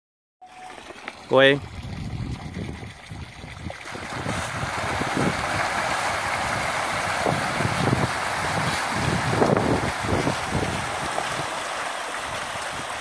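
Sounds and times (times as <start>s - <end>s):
fish splashing at water surface: 0.4s - 13.0s.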